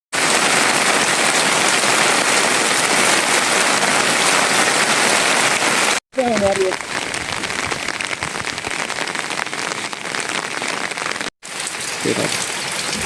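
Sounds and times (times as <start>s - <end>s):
heavy rain falling: 0.2s - 13.0s.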